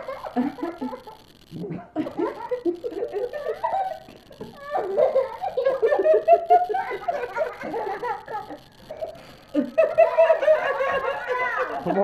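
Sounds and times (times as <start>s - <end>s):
person giggling: 0.0s - 12.0s.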